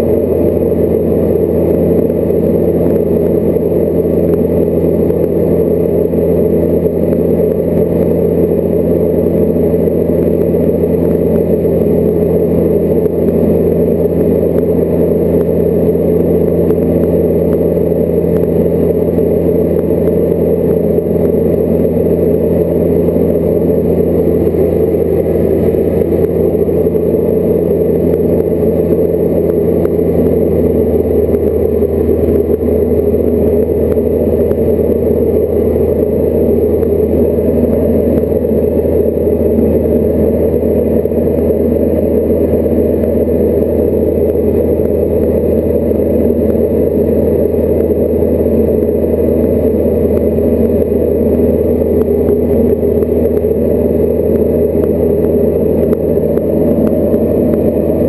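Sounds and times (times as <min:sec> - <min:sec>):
aircraft engine droning: 0:00.0 - 0:58.0.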